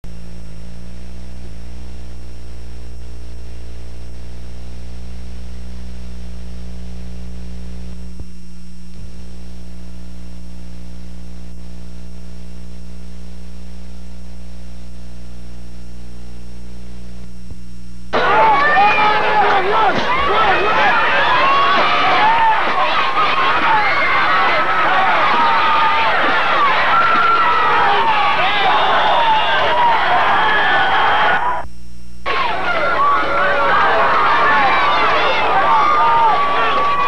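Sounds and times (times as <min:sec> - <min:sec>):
electrical mains hum: 0:00.1 - 0:37.0.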